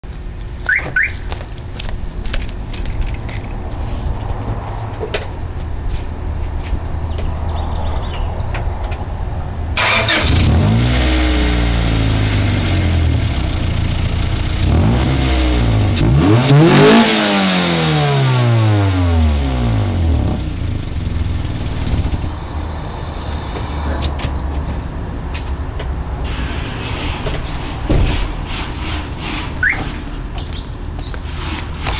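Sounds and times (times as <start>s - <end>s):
car engine idling and revving: 0.1s - 27.8s.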